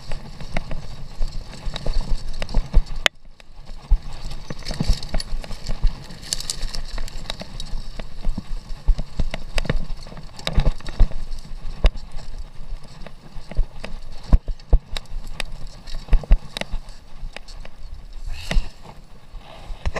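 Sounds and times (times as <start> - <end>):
mountain bike rattling: 0.0 - 19.3
low rumble of riding: 0.0 - 19.8.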